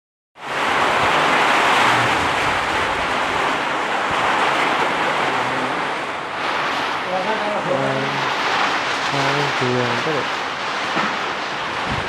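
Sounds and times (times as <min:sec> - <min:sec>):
strong storm wind blowing: 0:00.4 - 0:12.0.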